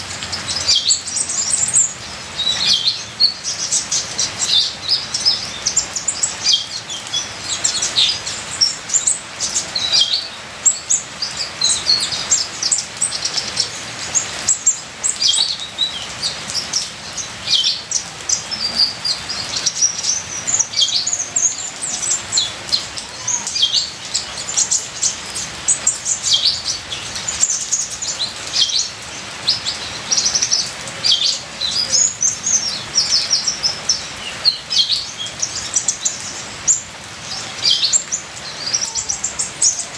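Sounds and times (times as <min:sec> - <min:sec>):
bird chirping and trilling: 0:00.2 - 0:39.9.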